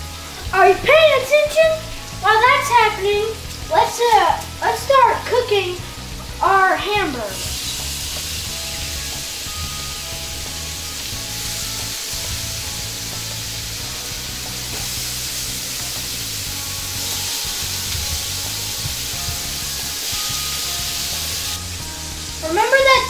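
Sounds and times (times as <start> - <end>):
background music: 0.0 - 23.0
meat patties sizzling: 0.0 - 23.0
onions frying: 0.0 - 23.0.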